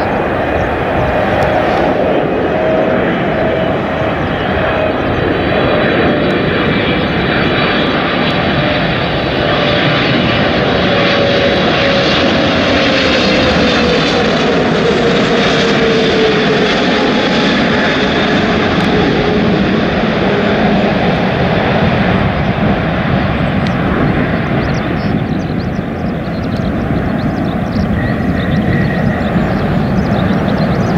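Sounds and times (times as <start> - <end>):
jet engines growling: 0.0 - 30.9
wind buffeting microphone: 0.0 - 30.9.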